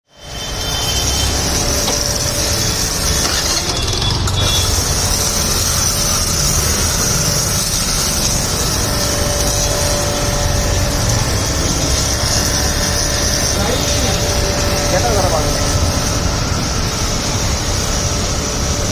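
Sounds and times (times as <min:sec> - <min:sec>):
car washer pump running: 0:00.0 - 0:18.9.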